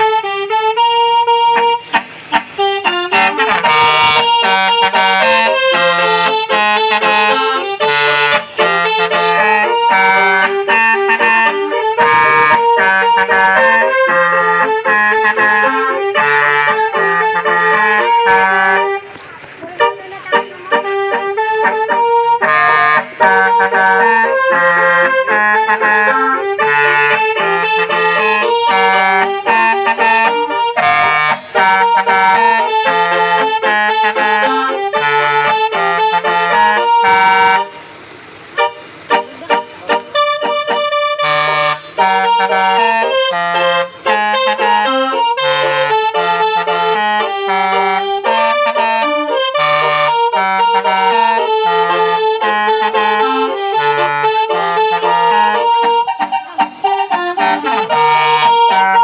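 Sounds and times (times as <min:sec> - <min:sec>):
moving bass line: 0:00.0 - 0:37.9, 0:38.6 - 0:59.0
reedy accordion-like melody: 0:00.0 - 0:59.0.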